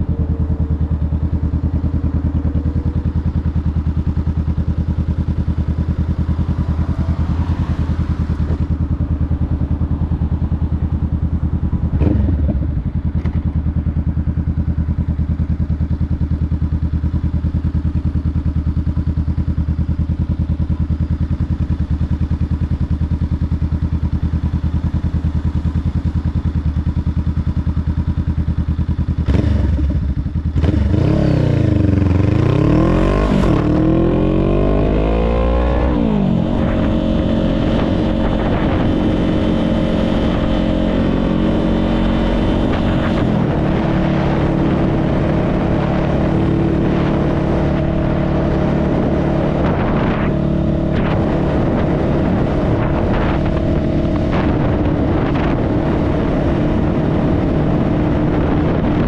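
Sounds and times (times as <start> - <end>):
motorcycle engine idling: 0.0 - 55.8.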